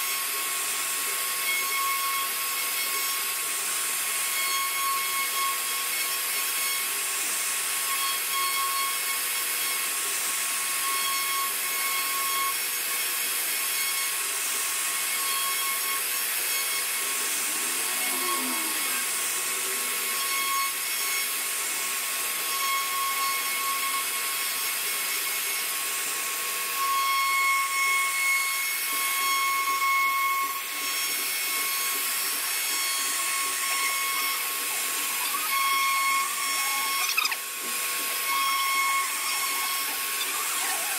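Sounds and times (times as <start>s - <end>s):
router spindle whine: 0.0s - 40.9s
wood being cut: 0.0s - 40.9s.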